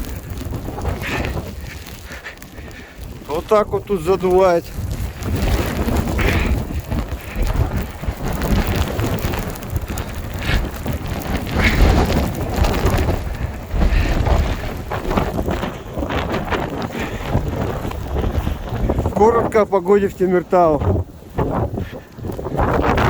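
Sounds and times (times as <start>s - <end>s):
blizzard wind buffeting microphone: 0.0s - 23.0s.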